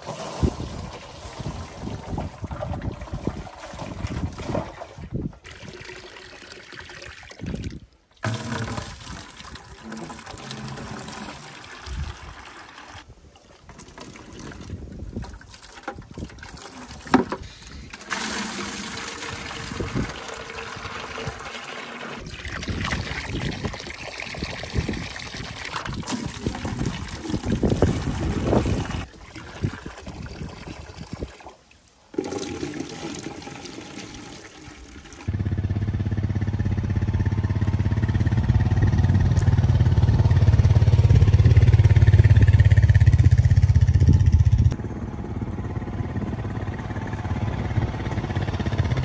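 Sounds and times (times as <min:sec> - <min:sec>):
water from hose splashing into buckets: 0:00.0 - 0:43.9.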